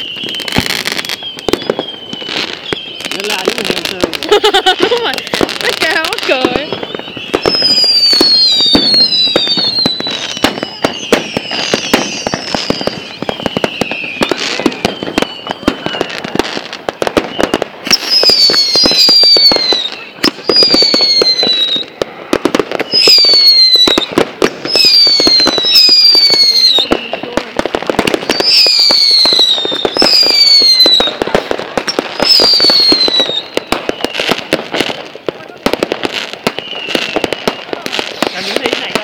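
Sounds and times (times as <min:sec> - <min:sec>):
crackle of small sharp pops: 0:00.0 - 0:39.0
whistling fireworks: 0:00.0 - 0:39.0.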